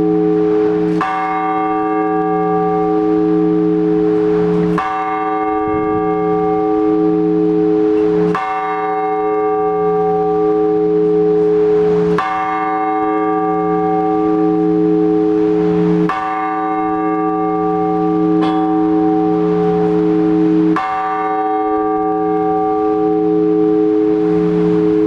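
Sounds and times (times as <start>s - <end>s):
heavy church bell: 0.0s - 25.0s.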